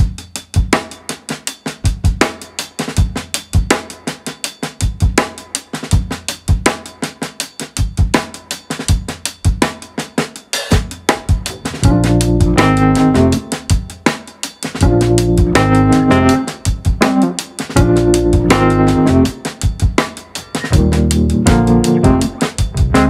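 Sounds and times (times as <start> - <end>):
background music with drum beat: 0.0 - 23.0.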